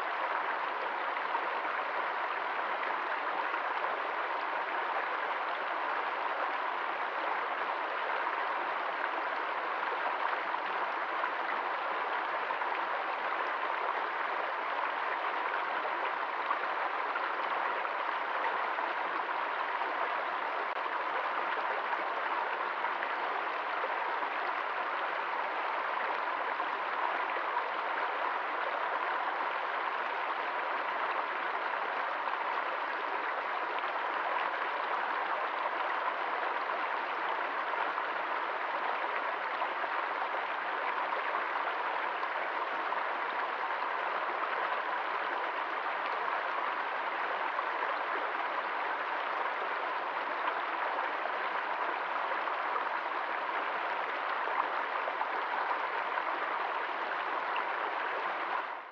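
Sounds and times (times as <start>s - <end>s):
stream flowing over stones: 0.0s - 58.9s.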